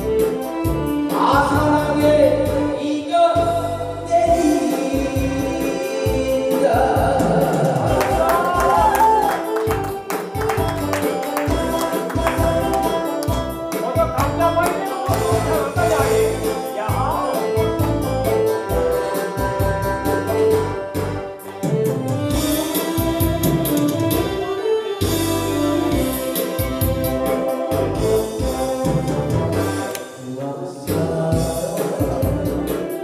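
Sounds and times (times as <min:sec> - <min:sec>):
trot song with instrumental backing: 0:00.0 - 0:33.0.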